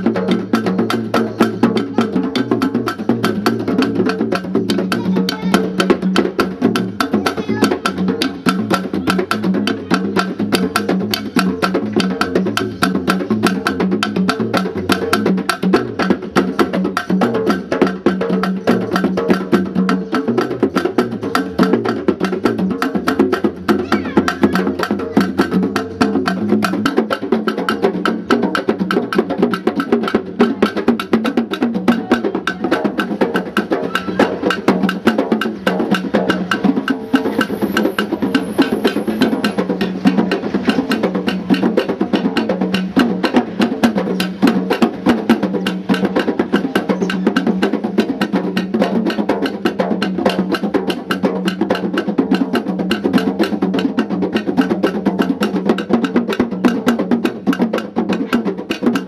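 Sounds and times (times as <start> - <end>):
hand drum ensemble: 0.0 - 59.0.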